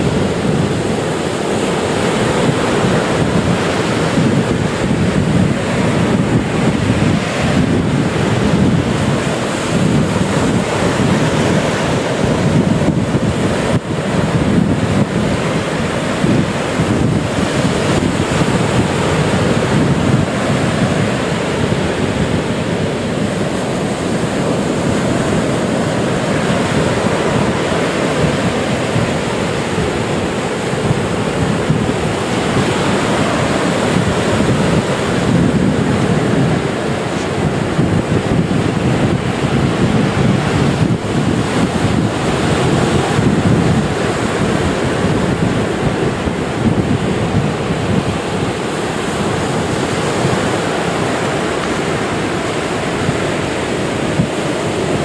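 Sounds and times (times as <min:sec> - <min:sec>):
waves washing up a beach: 0:00.0 - 0:55.0
wind rumbling on microphone: 0:00.0 - 0:55.0.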